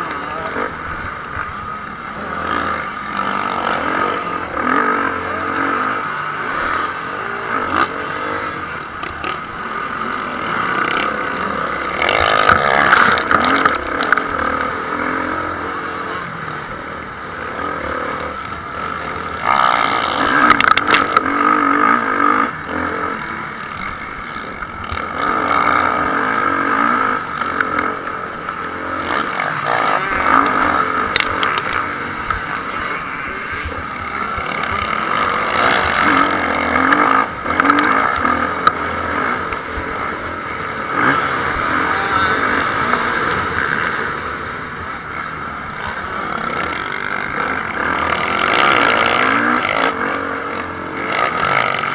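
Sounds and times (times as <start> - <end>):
motocross bikes revving: 0.0 - 51.9.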